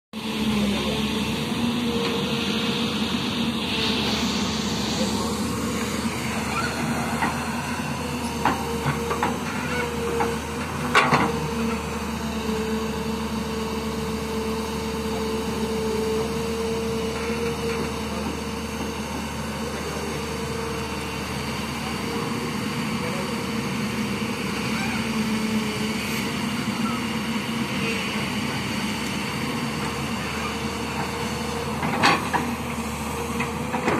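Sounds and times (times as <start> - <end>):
excavator engine hum with whine: 0.1 - 33.9.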